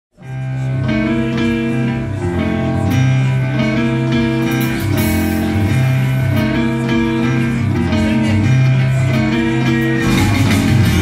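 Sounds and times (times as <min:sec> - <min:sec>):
bass line: 0:00.2 - 0:11.0.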